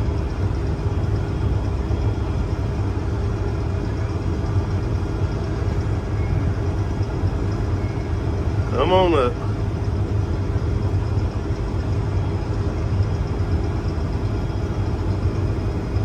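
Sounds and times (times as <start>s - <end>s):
combine engine droning: 0.0s - 16.0s.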